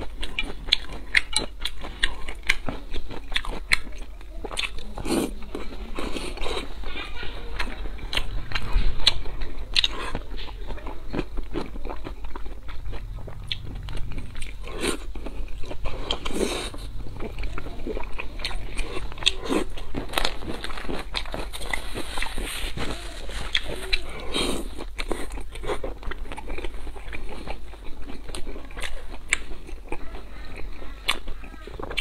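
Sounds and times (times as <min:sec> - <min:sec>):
chewing crunches: 0:00.0 - 0:32.0.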